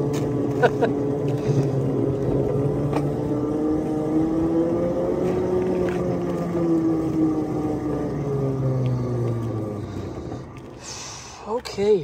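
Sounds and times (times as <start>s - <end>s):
locomotive motor hum: 0.0s - 12.0s.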